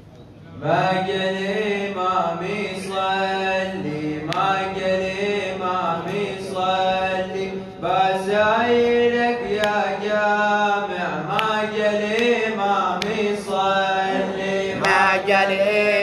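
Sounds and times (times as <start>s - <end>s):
man chanting into a microphone: 0.5s - 16.0s.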